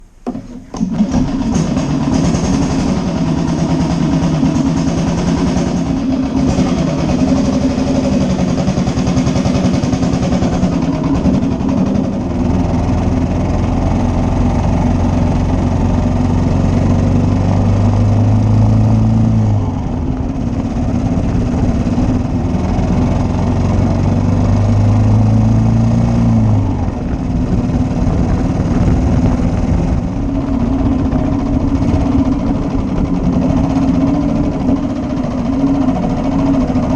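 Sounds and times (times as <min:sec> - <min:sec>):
motorcycle engine revving: 0:00.2 - 0:36.9.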